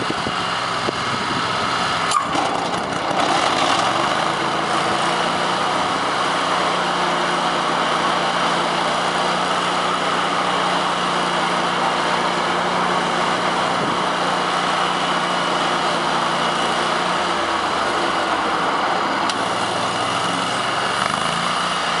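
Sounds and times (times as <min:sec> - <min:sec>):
stump grinder engine running: 0:00.0 - 0:22.0.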